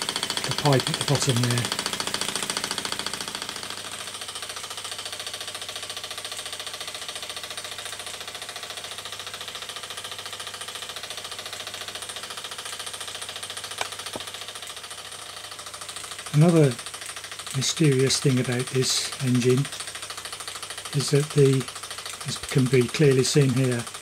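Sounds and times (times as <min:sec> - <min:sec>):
toy steam engine beating: 0:00.0 - 0:05.0, 0:08.1 - 0:24.0.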